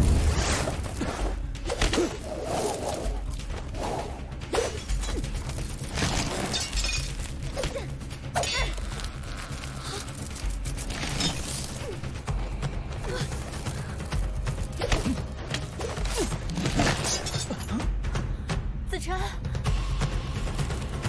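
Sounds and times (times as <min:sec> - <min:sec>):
dramatic background music: 0:00.0 - 0:21.0.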